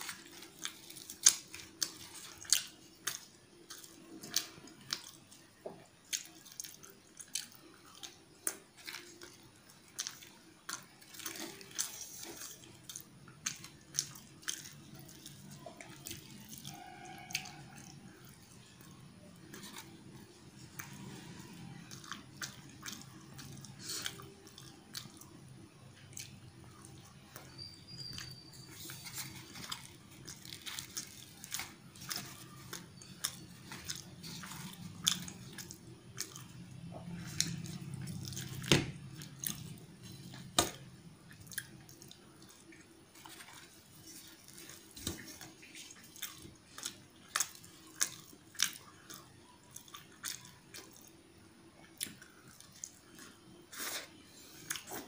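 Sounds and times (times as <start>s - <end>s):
chewing with wet mouth clicks: 0.0s - 25.4s, 26.0s - 55.0s.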